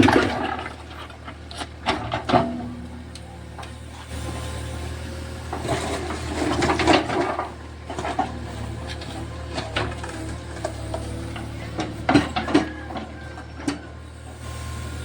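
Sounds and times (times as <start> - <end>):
crunching and scraping demolition: 0.0 - 15.0
diesel engine running: 0.0 - 15.0.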